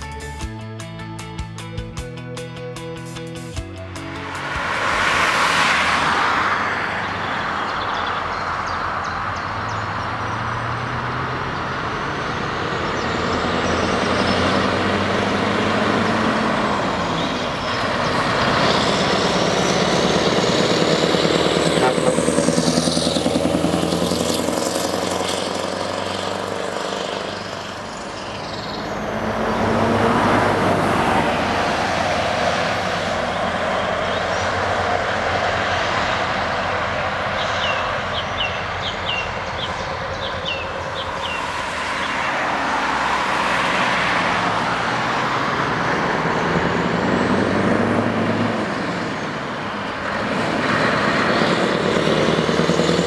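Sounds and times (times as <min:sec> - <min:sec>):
traffic rushing: 0:00.0 - 0:53.0
heavy trucks driving past: 0:03.0 - 0:53.0.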